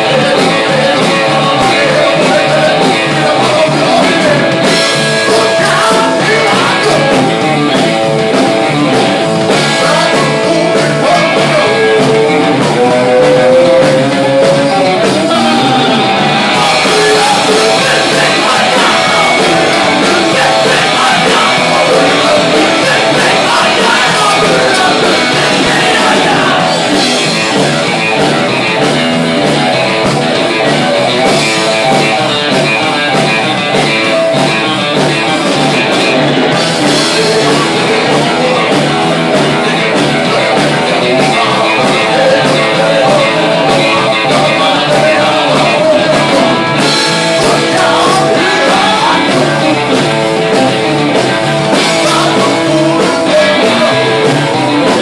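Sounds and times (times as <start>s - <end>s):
person singing: 0.0s - 8.3s, 8.9s - 27.7s, 36.5s - 55.0s
loud rock band playing: 0.0s - 55.0s.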